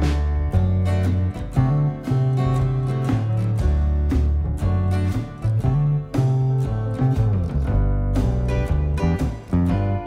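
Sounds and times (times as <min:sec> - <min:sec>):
bass line: 0:00.0 - 0:10.0
plucked guitar notes: 0:00.0 - 0:10.0.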